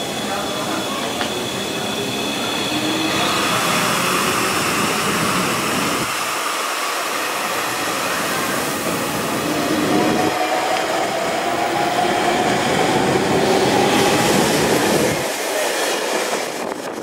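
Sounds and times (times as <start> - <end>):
train wheels rushing: 0.0 - 17.0.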